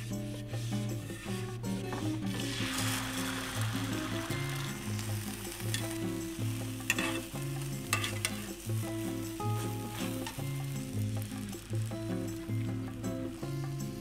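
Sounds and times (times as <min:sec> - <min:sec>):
background music: 0:00.0 - 0:14.0
egg mixture sizzling in a frying pan: 0:00.0 - 0:14.0
utensil clicking and scraping in pan: 0:00.0 - 0:14.0.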